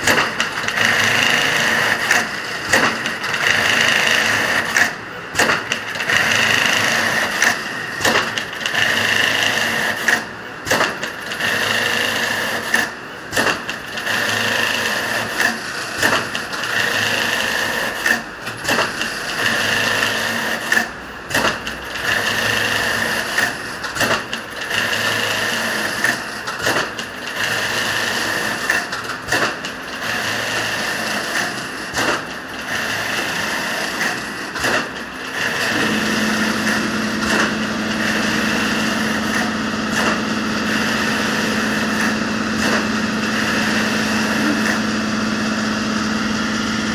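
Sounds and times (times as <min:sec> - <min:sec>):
sewing machine whirring: 0:00.0 - 0:46.9.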